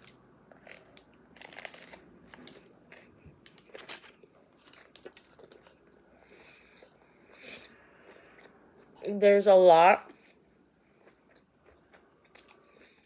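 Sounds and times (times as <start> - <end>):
chewing crusty bread: 0.0 - 9.1, 10.1 - 13.0.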